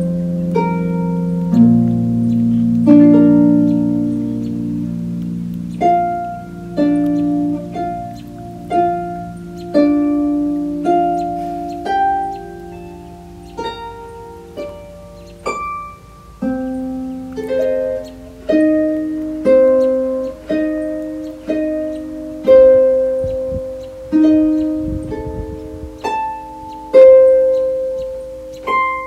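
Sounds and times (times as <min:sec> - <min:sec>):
harp playing slow melody: 0:00.0 - 0:29.0.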